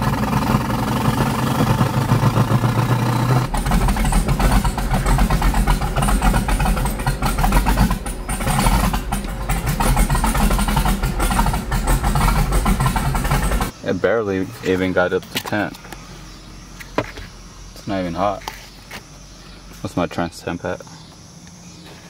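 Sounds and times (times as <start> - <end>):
truck engine and exhaust droning: 0.0 - 19.8.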